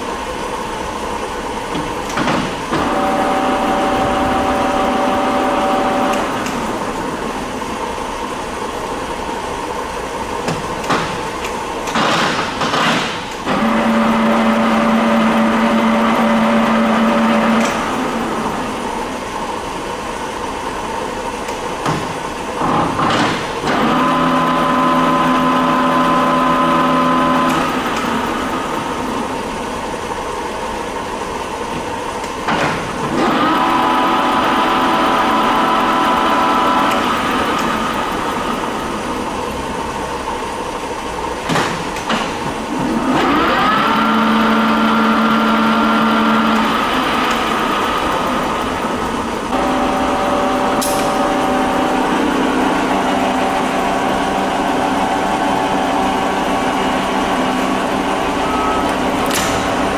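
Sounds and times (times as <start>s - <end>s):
lathe gears whining: 0.0s - 59.9s.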